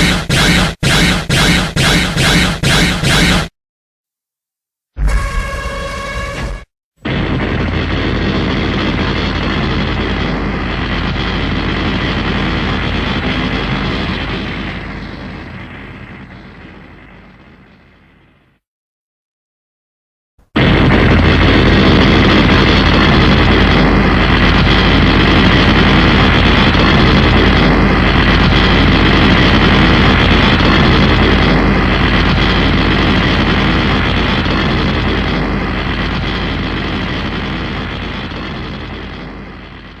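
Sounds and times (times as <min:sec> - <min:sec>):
loud mechanical drone: 0:00.0 - 0:03.5, 0:06.3 - 0:18.6, 0:20.6 - 0:40.0.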